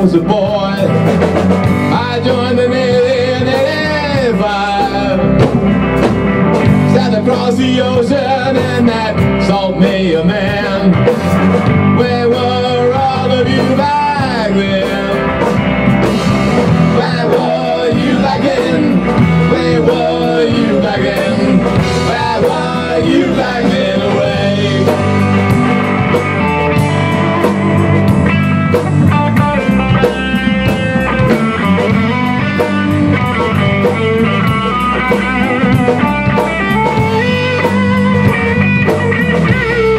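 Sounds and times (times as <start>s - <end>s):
rock band playing live: 0.0s - 39.9s
sliding lead guitar line: 0.0s - 39.9s.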